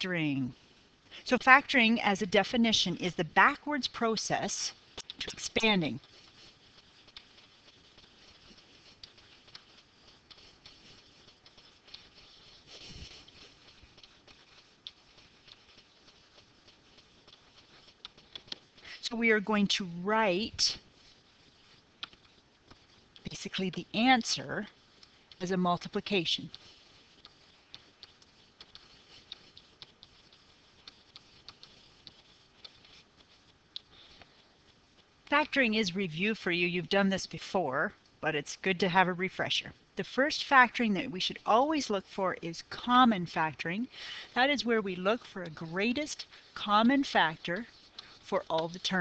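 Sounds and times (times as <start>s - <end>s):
stylus tapping and scratching on screen: 0.0s - 49.0s.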